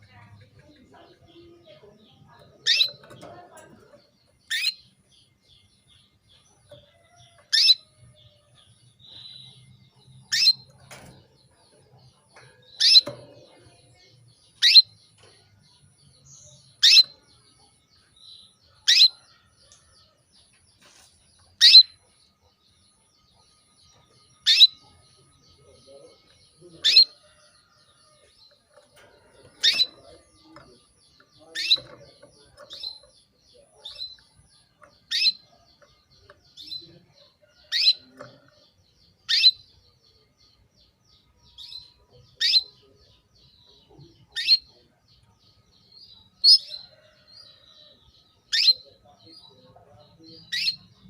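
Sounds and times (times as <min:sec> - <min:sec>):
canary chirping: 0:00.0 - 0:51.0.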